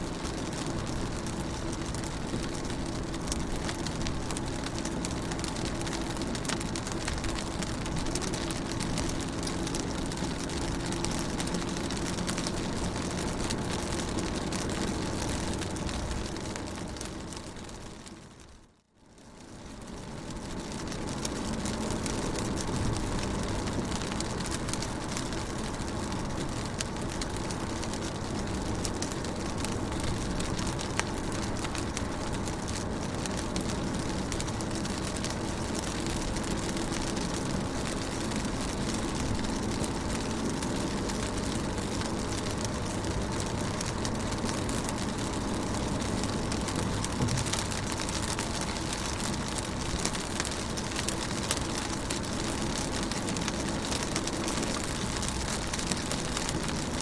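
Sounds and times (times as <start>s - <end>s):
rain on car body: 0.0s - 57.0s.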